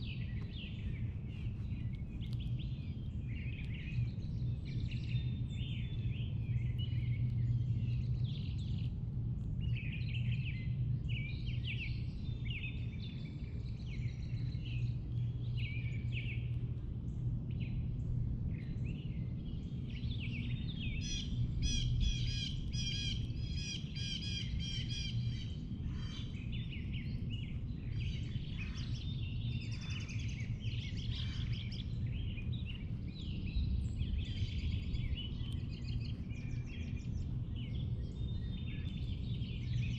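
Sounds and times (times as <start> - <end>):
songbirds singing: 0.0 - 39.9
steady low hum: 0.0 - 39.9.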